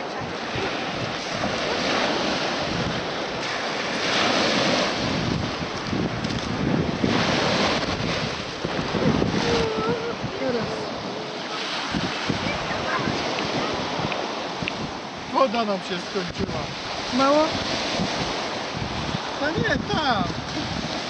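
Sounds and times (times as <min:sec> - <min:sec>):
surf breaking on shore: 0:00.0 - 0:21.0
wind buffeting microphone: 0:00.0 - 0:21.0.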